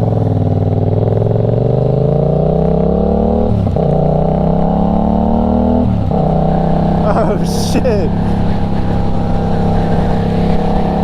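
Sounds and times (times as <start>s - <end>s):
motorcycle engine accelerating: 0.0s - 7.3s, 8.1s - 11.0s.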